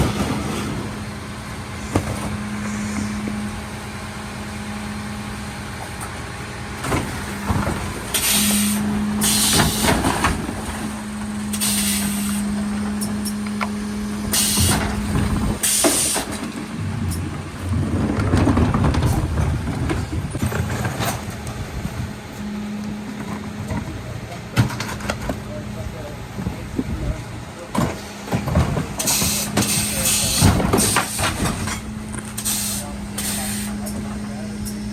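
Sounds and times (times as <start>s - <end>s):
heavy low rumble: 0.0s - 29.0s
truck engine humming: 0.0s - 34.9s.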